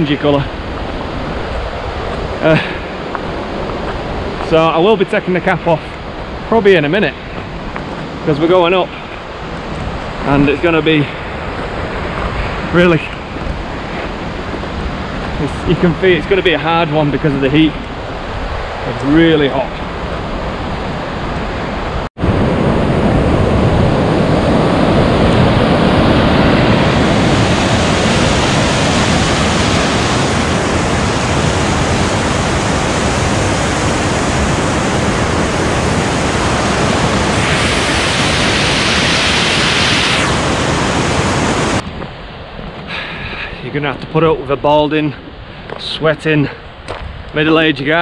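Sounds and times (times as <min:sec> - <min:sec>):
loud steady rushing noise: 0:00.0 - 0:45.2.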